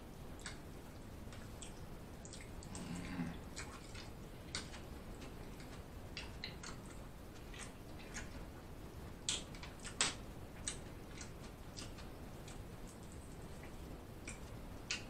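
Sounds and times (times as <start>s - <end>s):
wet chewing: 0.4s - 8.5s, 9.2s - 15.0s.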